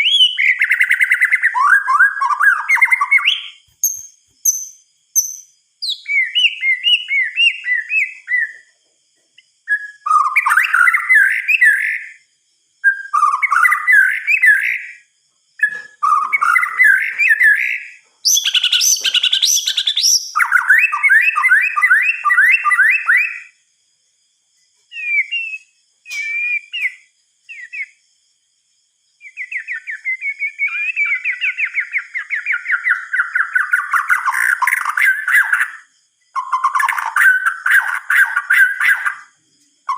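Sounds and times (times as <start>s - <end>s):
bird singing whistled notes: 0.0s - 8.8s, 9.4s - 23.6s, 24.7s - 28.1s, 29.1s - 39.9s.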